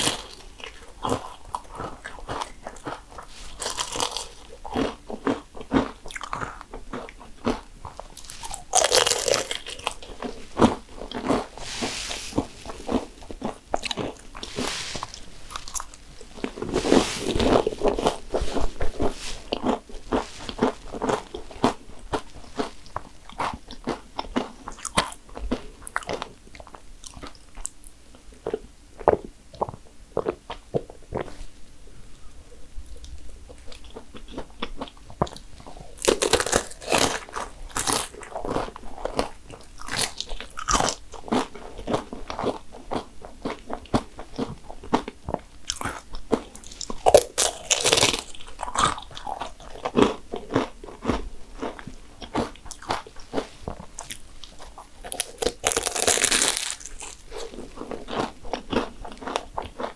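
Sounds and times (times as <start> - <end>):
crunchy pastry being chewed: 0.0 - 31.6, 32.8 - 59.9.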